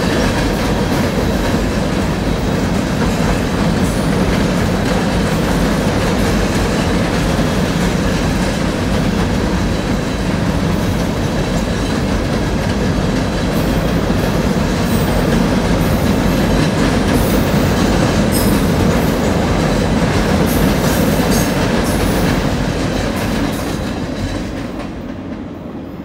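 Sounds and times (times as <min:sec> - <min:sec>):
freight train wheels rumbling on rails: 0:00.0 - 0:26.0.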